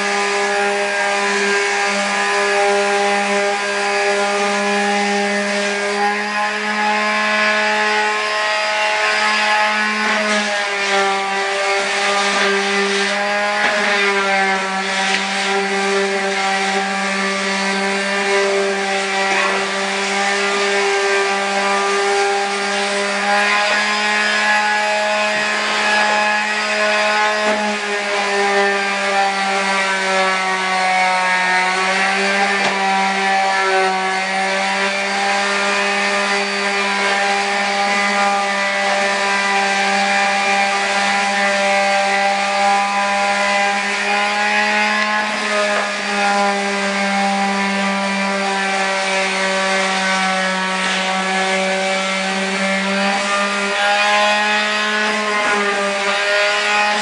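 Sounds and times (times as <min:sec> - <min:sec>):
power sander on drywall: 0:00.0 - 0:57.0.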